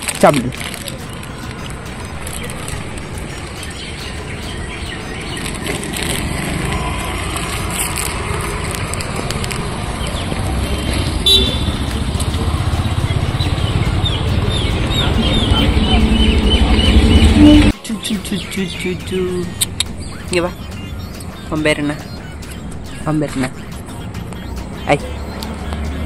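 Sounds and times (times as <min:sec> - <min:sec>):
street traffic: 0:00.0 - 0:26.0
vehicle engine rumble: 0:00.0 - 0:26.0.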